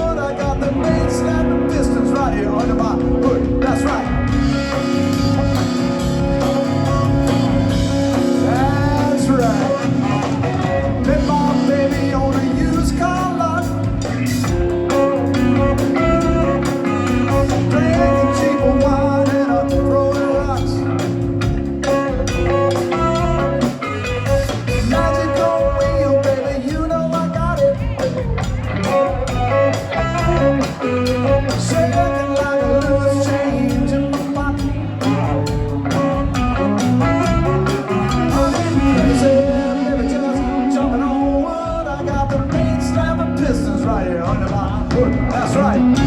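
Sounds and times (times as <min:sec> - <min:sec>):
band playing guitar and drums: 0:00.0 - 0:46.0
person singing: 0:06.4 - 0:21.0, 0:21.9 - 0:28.0, 0:29.5 - 0:46.0.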